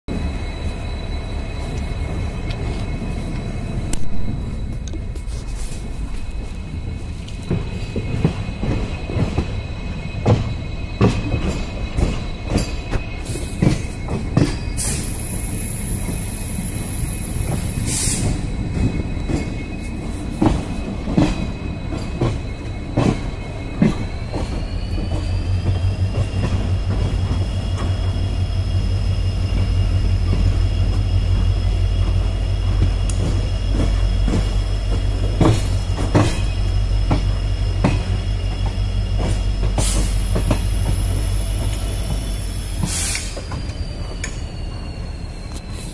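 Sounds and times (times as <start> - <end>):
train wheels clicking on rails: 0.1 - 45.9.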